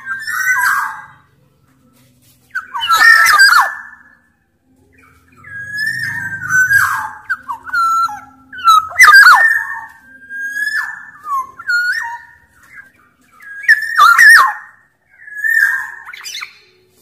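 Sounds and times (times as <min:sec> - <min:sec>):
oriole singing whistled phrases: 0:00.0 - 0:01.3, 0:02.4 - 0:04.3, 0:04.9 - 0:17.0.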